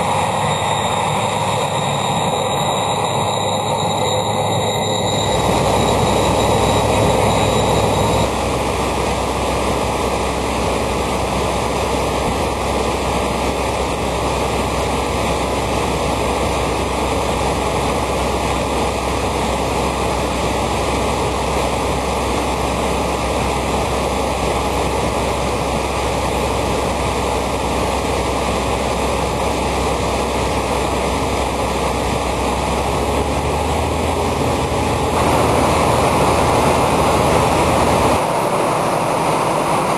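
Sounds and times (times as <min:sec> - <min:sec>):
farm machinery running: 0:00.0 - 0:39.9
high whine: 0:00.0 - 0:39.9.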